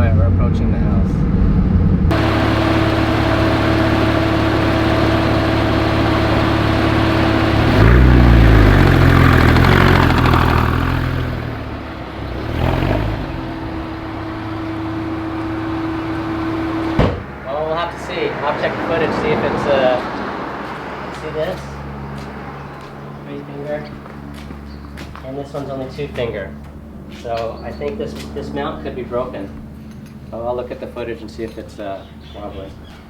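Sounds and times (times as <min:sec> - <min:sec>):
car engine revving: 0:00.0 - 0:27.2.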